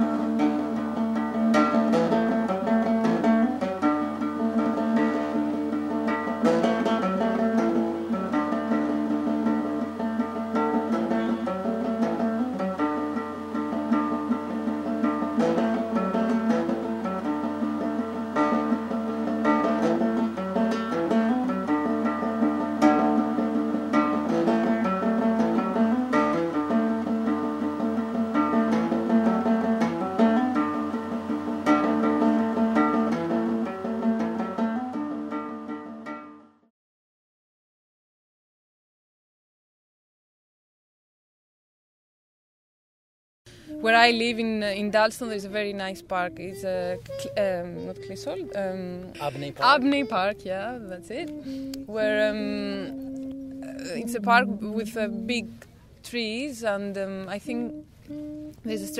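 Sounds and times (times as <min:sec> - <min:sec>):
plucked string instrument music: 0:00.0 - 0:36.7, 0:43.5 - 0:58.9.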